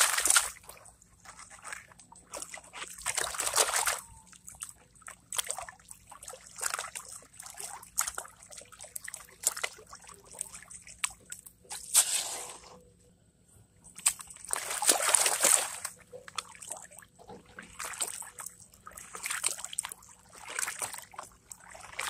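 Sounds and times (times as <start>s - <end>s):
water sloshing in a pan: 0.0s - 12.8s, 14.0s - 22.0s.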